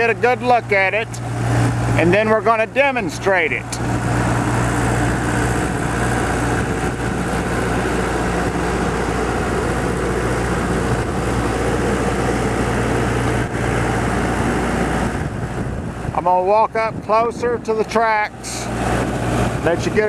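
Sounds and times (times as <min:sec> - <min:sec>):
skid steer engine idling: 0:00.0 - 0:20.0.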